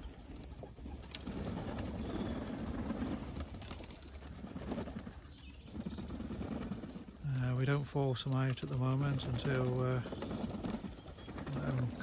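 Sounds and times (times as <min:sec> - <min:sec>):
pigeons cooing: 0:00.0 - 0:07.9, 0:08.6 - 0:12.0.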